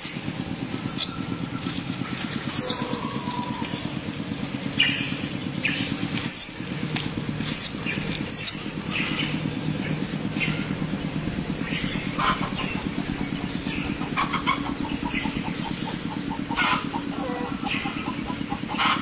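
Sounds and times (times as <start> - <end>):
engine idling with low pulsing: 0.0 - 19.0.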